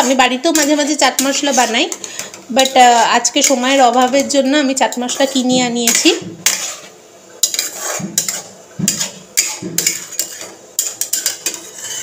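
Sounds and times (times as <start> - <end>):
spatula scraping pan: 0.0 - 12.0.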